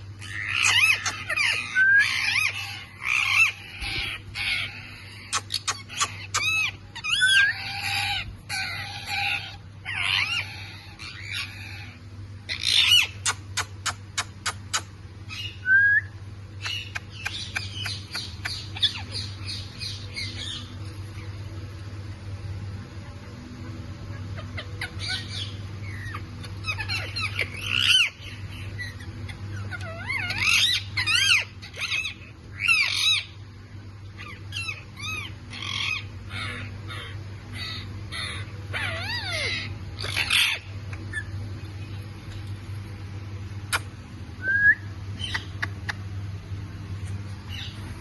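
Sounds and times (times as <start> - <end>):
parakeets squawking and chirping: 0.0 - 15.6, 16.4 - 44.1, 45.0 - 48.0
steady low hum: 0.0 - 48.0.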